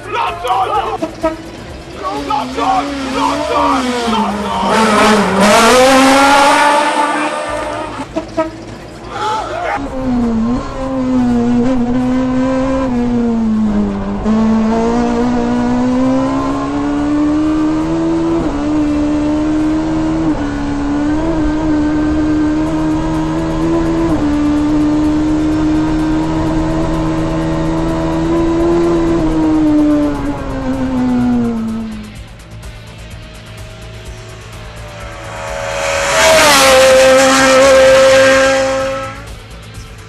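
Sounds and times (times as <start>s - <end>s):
gear changes: 0.0s - 40.0s
rally car engine revving: 0.0s - 40.0s.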